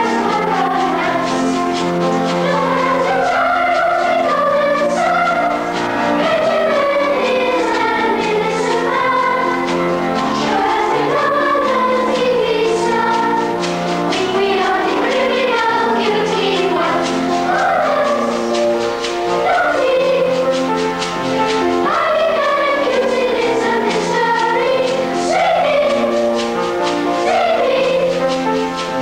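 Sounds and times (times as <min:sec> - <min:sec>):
children's choir singing: 0:00.0 - 0:29.0
instrumental accompaniment with beat: 0:00.0 - 0:29.0.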